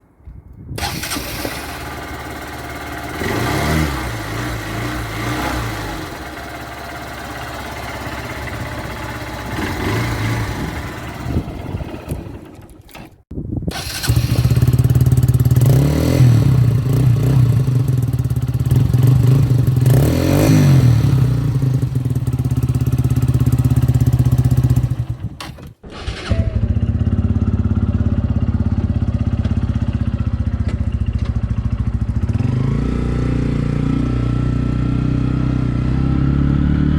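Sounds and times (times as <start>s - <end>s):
motorcycle engine idling and revving: 0.8s - 36.9s.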